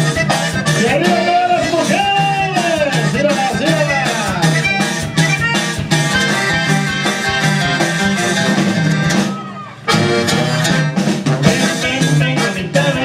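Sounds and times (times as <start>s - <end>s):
loud live band music: 0.0s - 13.0s.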